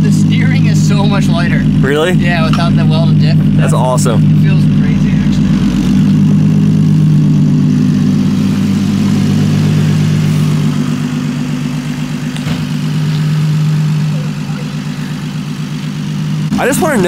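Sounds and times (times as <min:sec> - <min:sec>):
engine droning at low revs: 0:00.0 - 0:17.0.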